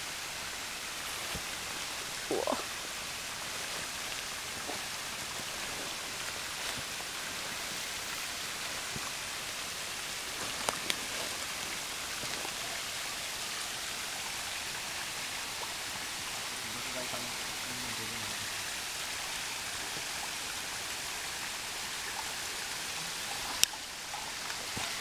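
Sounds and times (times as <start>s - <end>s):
mountain stream pouring over rock: 0.0s - 25.0s.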